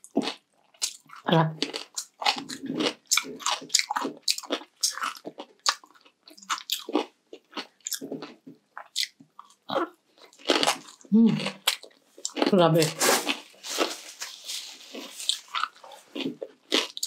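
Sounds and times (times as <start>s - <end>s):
chewing crispy food: 0.0s - 17.0s.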